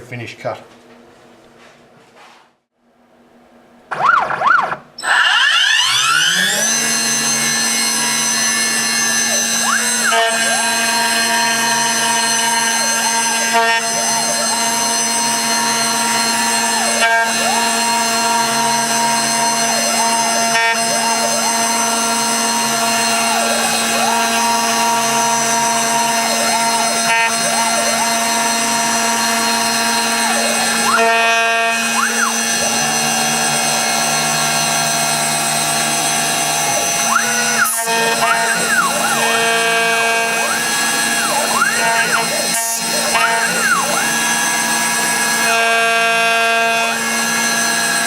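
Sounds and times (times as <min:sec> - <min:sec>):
spindle high whine: 0:03.8 - 0:48.0
axis motors whirring: 0:05.0 - 0:48.0.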